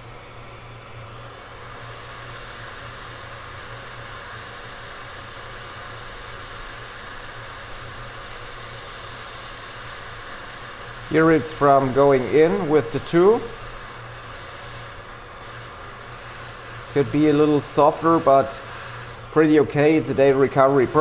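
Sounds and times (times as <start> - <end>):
hot-air station hissing: 0.0 - 21.0.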